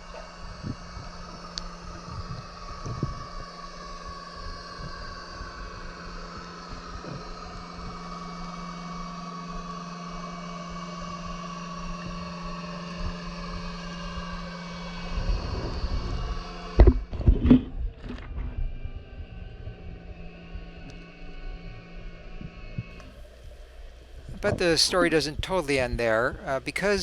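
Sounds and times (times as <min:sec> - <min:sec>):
low rumble: 0:00.0 - 0:27.0
steady engine hum: 0:00.0 - 0:27.0.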